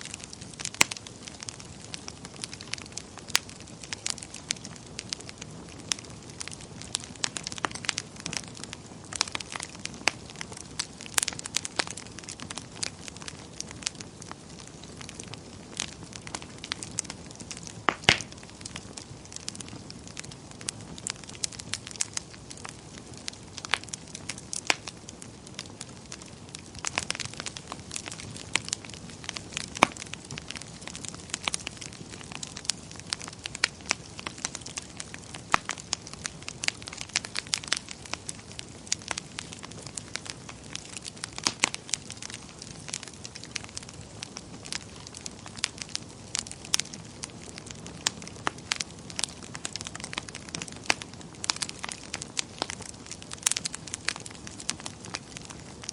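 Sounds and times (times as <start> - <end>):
fire crackling and popping: 0.0 - 55.9
soft fire hiss: 0.0 - 55.9.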